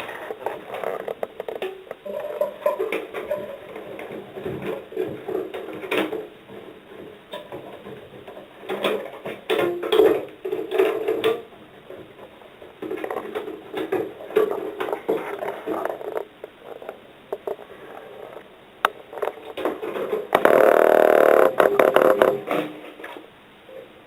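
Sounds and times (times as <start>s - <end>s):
knocking and rattling of model parts: 0.0s - 23.3s.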